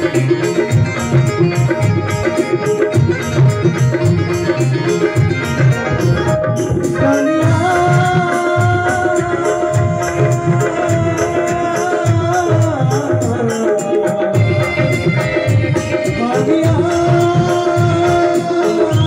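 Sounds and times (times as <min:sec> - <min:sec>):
hand drums beating: 0:00.0 - 0:19.0
held melody line: 0:00.0 - 0:19.0.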